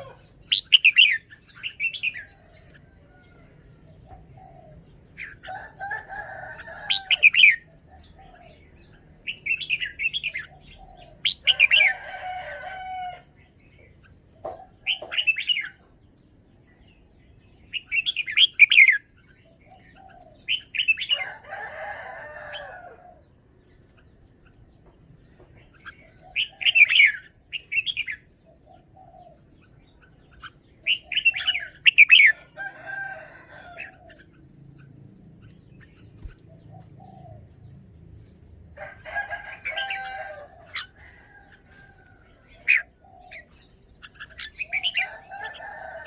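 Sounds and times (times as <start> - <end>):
bird song phrases: 0.0 - 46.0.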